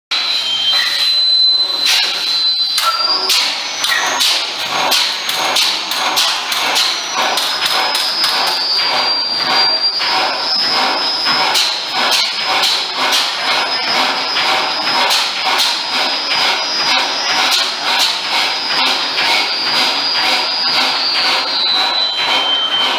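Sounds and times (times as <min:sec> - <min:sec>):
high whine: 0:00.1 - 0:22.9
stationary engine knocking: 0:02.8 - 0:22.9.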